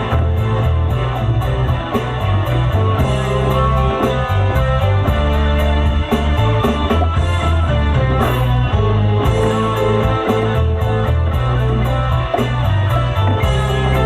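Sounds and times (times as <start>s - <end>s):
guitar: 0.0s - 14.0s
steady hi-hat beat: 0.0s - 14.0s
stepping bass line: 0.0s - 14.0s.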